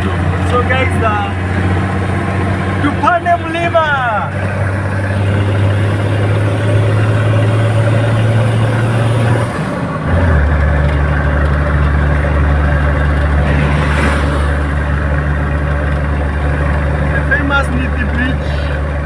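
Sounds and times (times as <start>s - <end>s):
vehicle engine pulling uphill: 0.0s - 19.0s.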